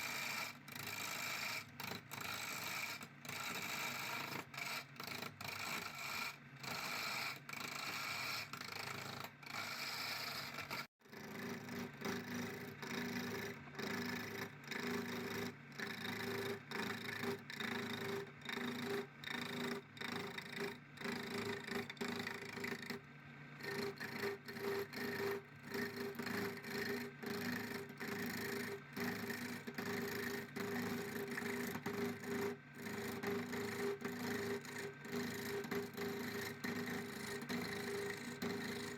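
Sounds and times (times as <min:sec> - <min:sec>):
sanding or filing rasp: 0:00.0 - 0:23.0, 0:23.6 - 0:38.9.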